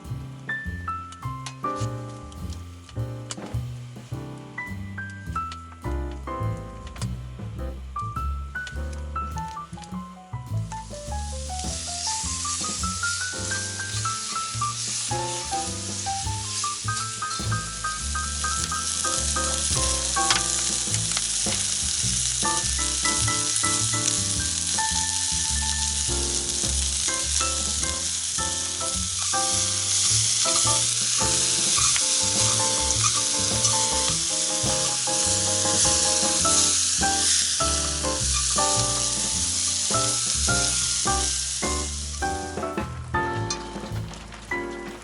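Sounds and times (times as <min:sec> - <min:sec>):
background music with bass: 0:00.0 - 0:45.0.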